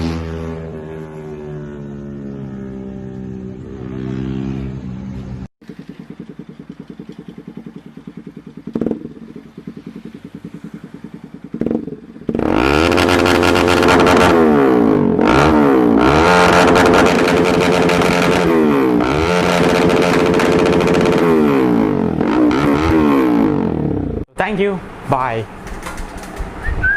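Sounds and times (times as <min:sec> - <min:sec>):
motorcycle idling and revving: 0:00.0 - 0:26.7.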